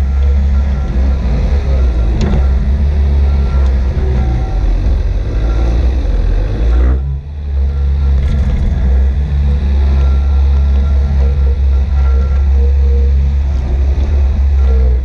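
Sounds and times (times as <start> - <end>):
farm machinery engine humming: 0.0 - 15.0.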